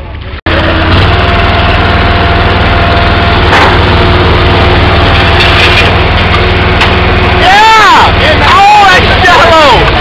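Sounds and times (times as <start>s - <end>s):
pickup truck engine running: 0.0s - 10.0s.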